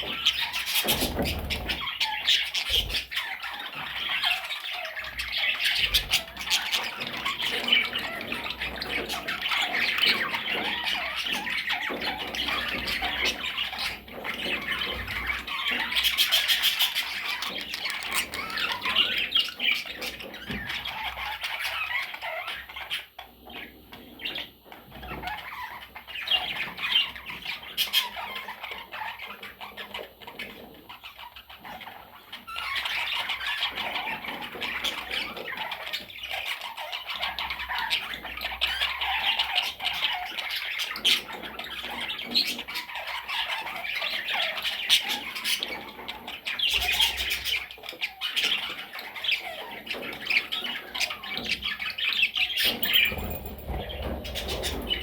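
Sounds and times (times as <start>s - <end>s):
budgerigars chattering and squawking: 0.0s - 55.0s.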